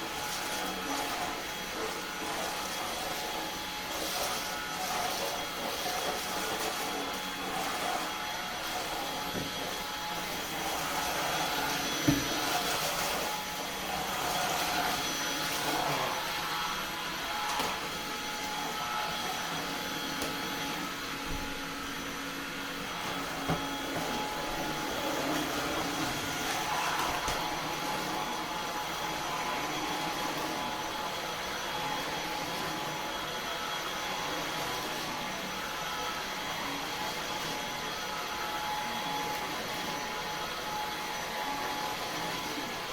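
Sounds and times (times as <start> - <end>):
stick vacuum running: 0.2 - 40.0.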